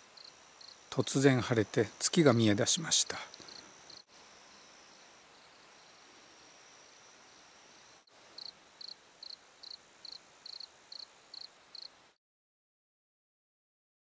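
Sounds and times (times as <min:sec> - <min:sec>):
cricket chirping: 0:00.0 - 0:12.0
insect high trill: 0:00.0 - 0:12.0.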